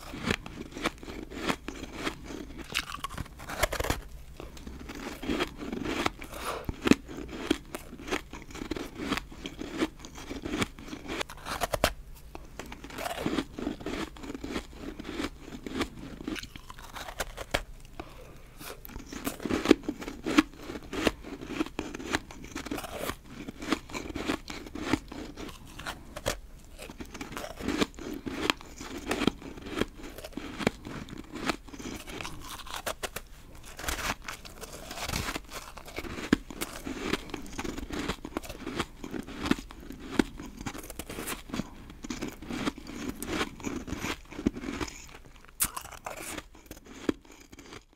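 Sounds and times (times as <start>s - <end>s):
crunching and chewing ice: 0.0s - 47.9s.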